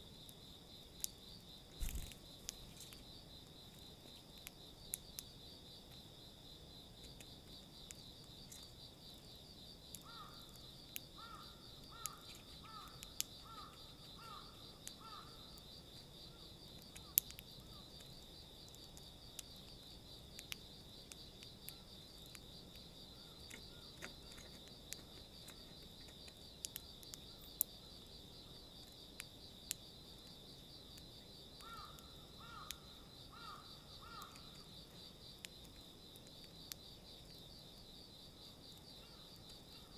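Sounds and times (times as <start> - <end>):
insect chirring: 0.0 - 39.9
beaks pecking seed in plastic tray: 0.2 - 6.2, 6.8 - 39.9.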